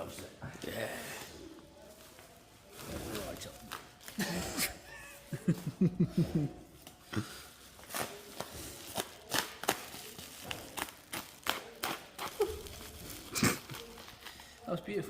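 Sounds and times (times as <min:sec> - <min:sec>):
plastic wrapping crinkling: 0:01.6 - 0:05.7, 0:06.8 - 0:15.0.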